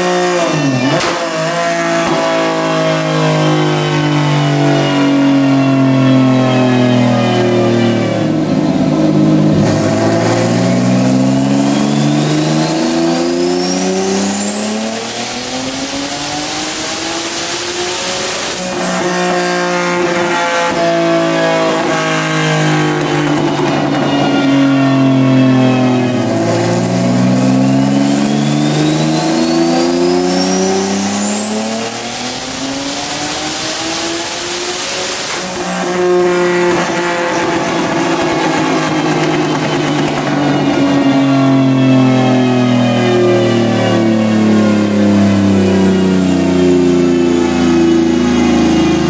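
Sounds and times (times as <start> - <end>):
car engine revving on a dyno: 0.0 - 49.0
dyno rollers coasting: 0.0 - 49.0
high turbo whistle: 0.0 - 49.0.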